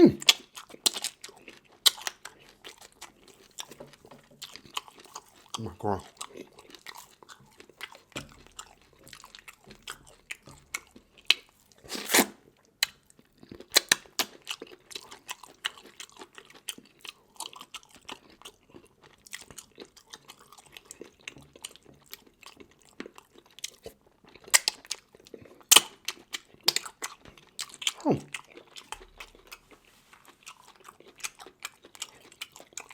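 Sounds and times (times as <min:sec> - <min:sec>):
chewing and crunching seafood: 0:00.0 - 0:32.9.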